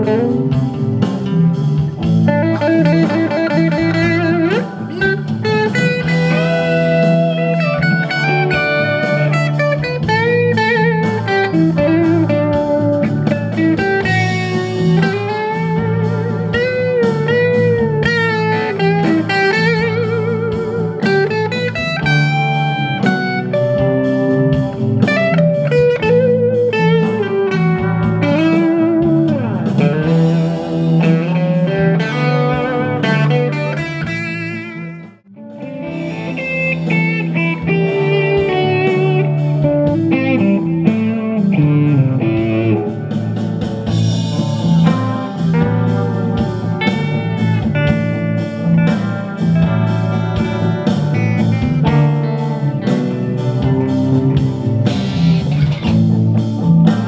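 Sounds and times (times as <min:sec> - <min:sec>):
acoustic guitar playing: 0:00.0 - 0:57.0
electric guitars through amplifiers: 0:00.0 - 0:57.0.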